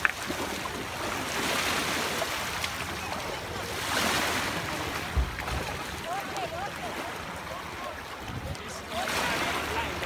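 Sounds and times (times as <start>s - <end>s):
people wading through water: 0.0s - 10.0s
small waves washing ashore: 0.0s - 10.0s.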